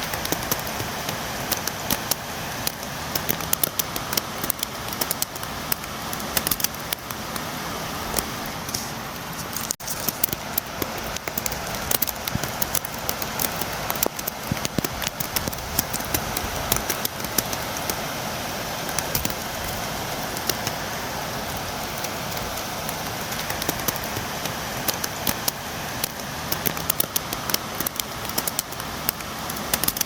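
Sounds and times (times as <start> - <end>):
rain drops tapping on window: 0.0 - 30.0.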